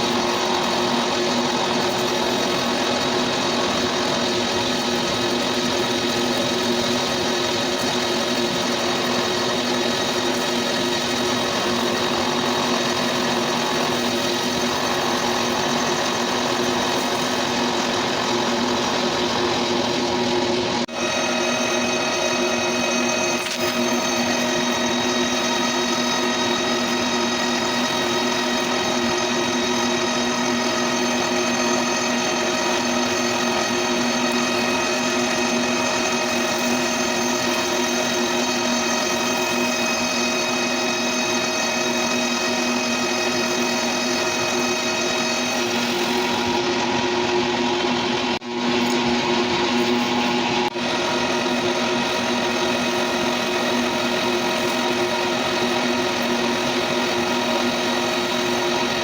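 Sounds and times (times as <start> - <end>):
lathe machining metal whine: 0.0 - 59.0.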